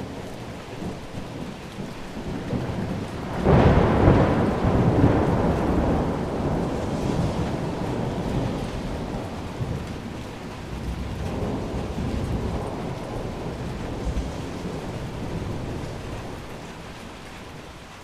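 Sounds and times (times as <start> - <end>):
rolling thunder: 0.0 - 17.8
steady rain: 0.0 - 18.0.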